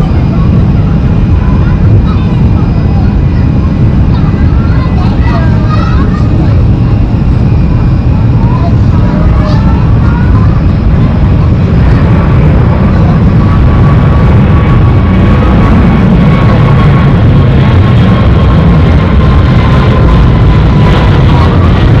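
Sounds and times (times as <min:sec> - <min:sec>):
jet engine whine: 0:00.0 - 0:22.0
jet engines rumbling: 0:00.0 - 0:22.0.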